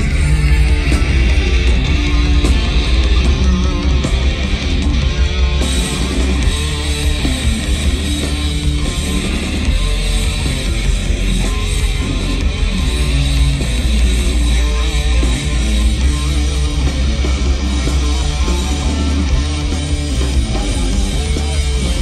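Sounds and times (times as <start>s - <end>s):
live heavy metal band: 0.0s - 22.0s.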